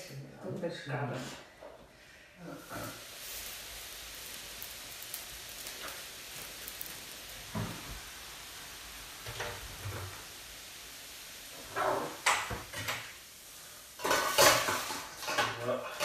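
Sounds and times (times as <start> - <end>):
wok hissing: 1.1 - 16.0.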